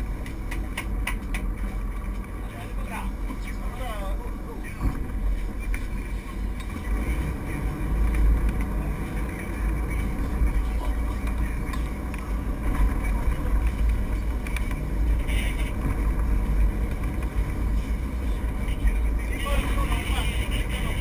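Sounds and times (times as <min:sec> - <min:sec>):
boat engines droning: 0:00.0 - 0:21.0.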